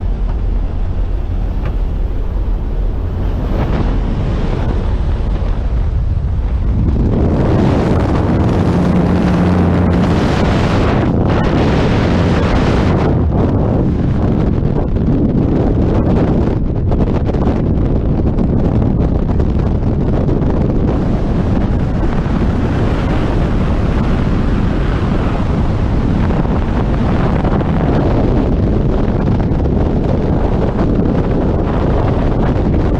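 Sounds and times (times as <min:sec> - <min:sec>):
strong wind on microphone: 0:00.0 - 0:32.9.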